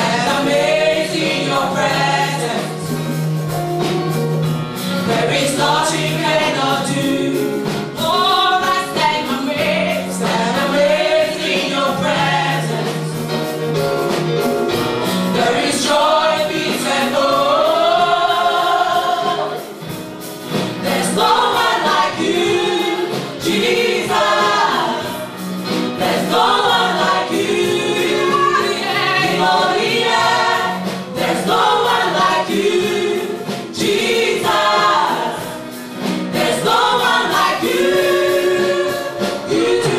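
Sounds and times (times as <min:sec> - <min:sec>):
choir singing gospel music: 0:00.0 - 0:39.9.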